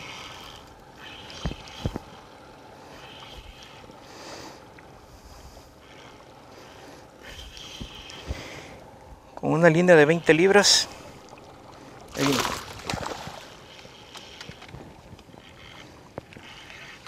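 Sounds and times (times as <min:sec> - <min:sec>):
water and wind: 0:00.0 - 0:17.0.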